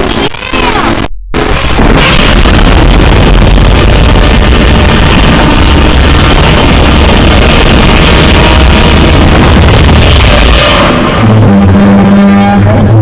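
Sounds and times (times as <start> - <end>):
distorted bass-boosted music: 0.0 - 13.0.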